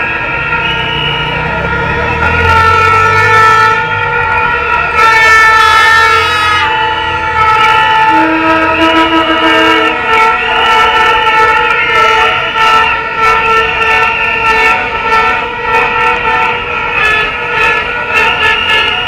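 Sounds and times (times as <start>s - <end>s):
many plastic horns blowing: 0.0s - 19.0s.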